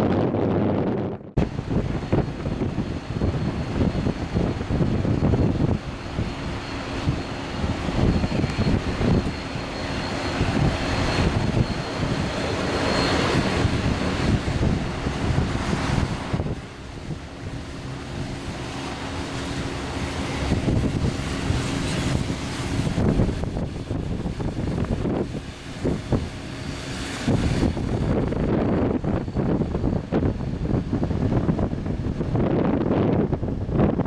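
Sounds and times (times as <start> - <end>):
turboprop engines whining: 0.0 - 34.0
wind buffeting microphone: 0.0 - 34.0.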